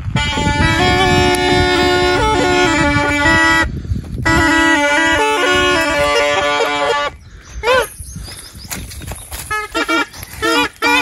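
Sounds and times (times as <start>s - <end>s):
reed pipe melody over drone: 0.0s - 7.9s, 9.5s - 11.0s.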